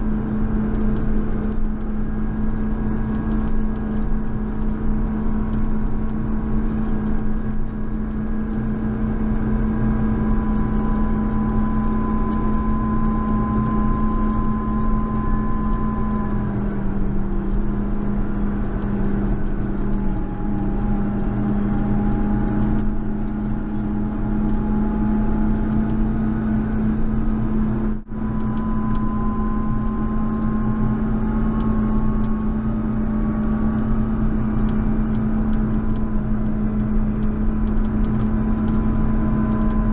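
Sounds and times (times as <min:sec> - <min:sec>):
tractor diesel engine: 0:00.0 - 0:39.9
whine: 0:00.0 - 0:39.9.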